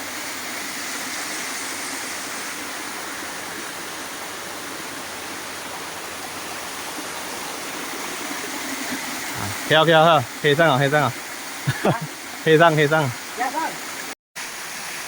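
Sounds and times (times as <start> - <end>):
stream water pouring over rocks: 0.0 - 15.0.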